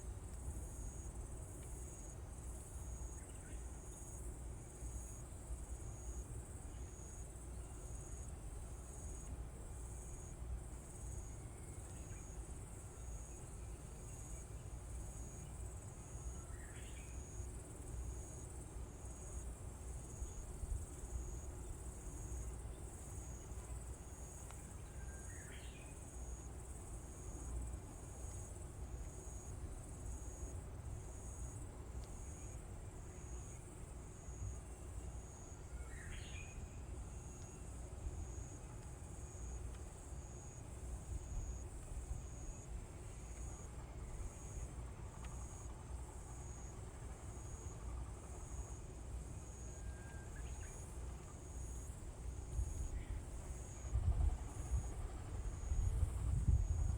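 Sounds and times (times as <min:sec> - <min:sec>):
insects pulsing high-pitched calls: 0:08.9 - 0:56.9.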